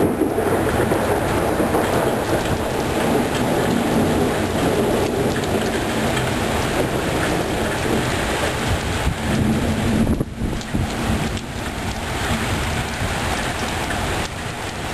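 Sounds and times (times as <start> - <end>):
heavy rain falling: 0.0 - 14.9
thunder rumbling: 0.0 - 14.9.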